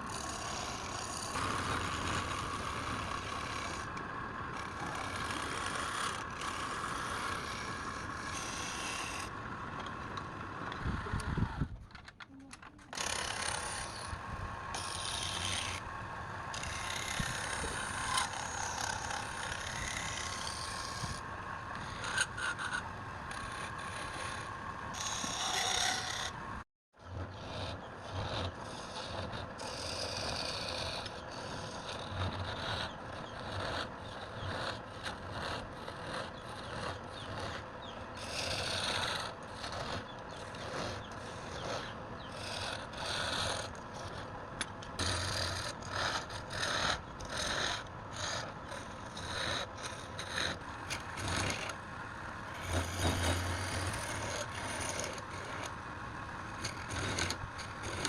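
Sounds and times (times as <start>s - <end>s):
wood lathe humming: 0.0s - 11.6s, 12.9s - 26.4s, 27.1s - 58.0s
turning tool scraping wood: 0.0s - 15.9s, 16.5s - 26.4s, 27.0s - 58.0s.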